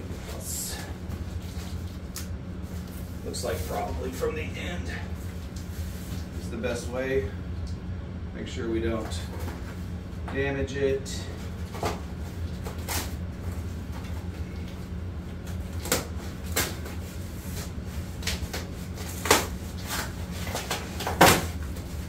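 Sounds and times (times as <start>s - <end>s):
hvac hum: 0.0s - 22.0s.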